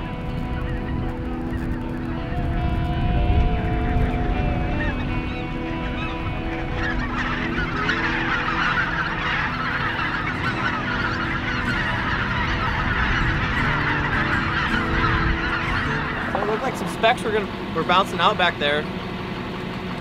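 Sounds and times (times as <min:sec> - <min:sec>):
geese honking: 0:00.0 - 0:20.0.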